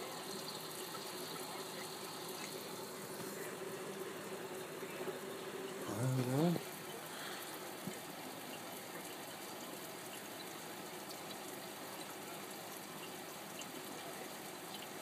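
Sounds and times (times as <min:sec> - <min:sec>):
aquarium filter bubbling: 0:00.0 - 0:15.0.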